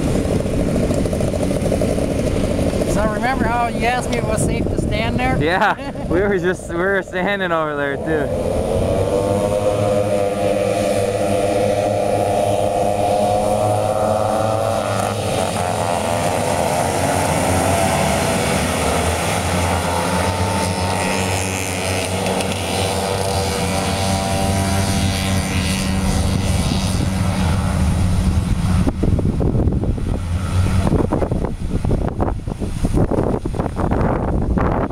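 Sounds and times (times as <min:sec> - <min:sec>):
snowmobile engines racing: 0:00.0 - 0:34.3
wind buffeting microphone: 0:00.0 - 0:34.9.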